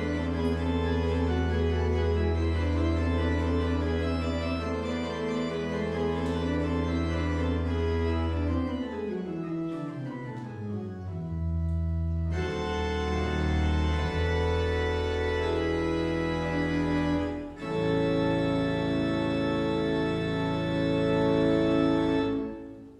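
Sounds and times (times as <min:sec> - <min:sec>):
church organ playing chords: 0:00.0 - 0:22.9.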